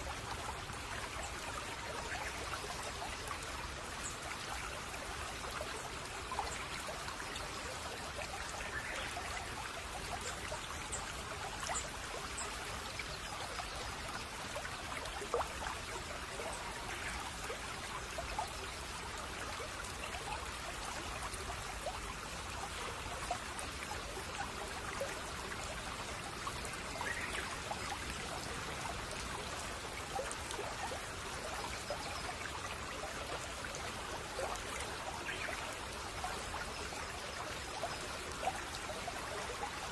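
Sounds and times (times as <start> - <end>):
brook water trickling: 0.0 - 39.9.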